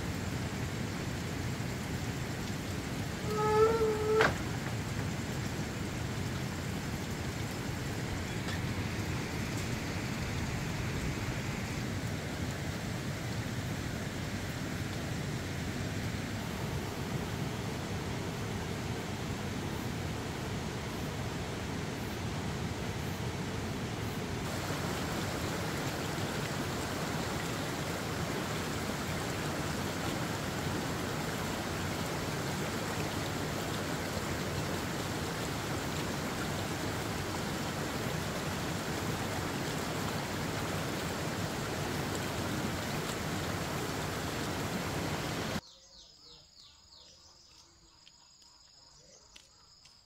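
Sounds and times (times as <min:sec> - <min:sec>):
crickets chirping: 0:00.0 - 0:11.8, 0:13.8 - 0:50.0.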